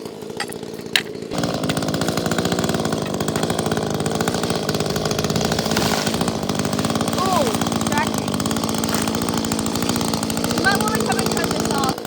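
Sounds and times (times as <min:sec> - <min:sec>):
chainsaw engine starting and running: 0:00.0 - 0:12.0.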